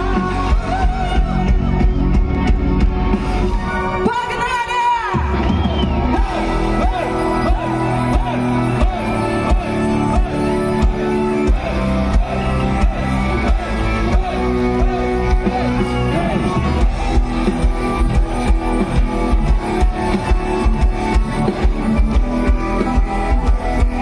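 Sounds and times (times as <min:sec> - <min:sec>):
folk-metal band music: 0:00.0 - 0:24.0.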